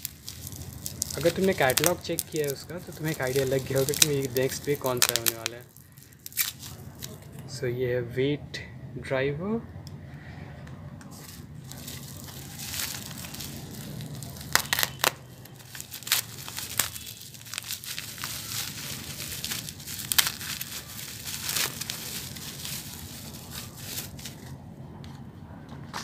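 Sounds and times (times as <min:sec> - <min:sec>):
bubble wrap crinkling: 0:00.0 - 0:07.4, 0:11.1 - 0:24.6.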